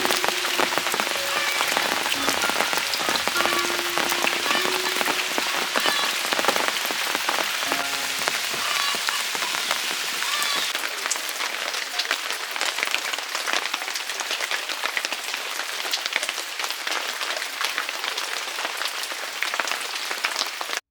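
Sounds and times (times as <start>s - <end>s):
heavy rain falling: 0.0s - 20.8s.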